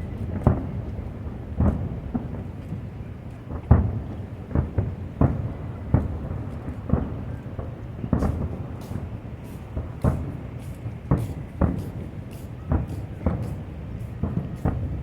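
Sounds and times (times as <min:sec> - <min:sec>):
continuous rumble: 0:00.0 - 0:15.0
fireworks bursting: 0:00.0 - 0:15.0.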